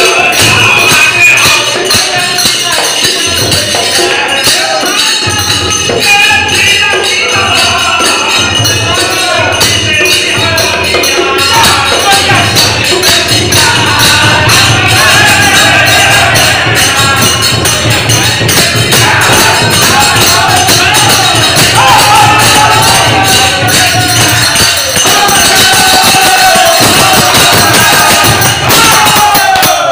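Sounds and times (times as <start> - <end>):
jingling percussion: 0.0 - 29.9
men singing together: 0.0 - 29.9.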